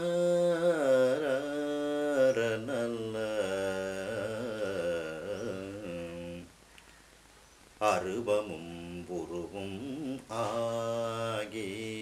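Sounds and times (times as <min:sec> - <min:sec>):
man singing devotional verse: 0:00.0 - 0:06.6, 0:07.8 - 0:12.0.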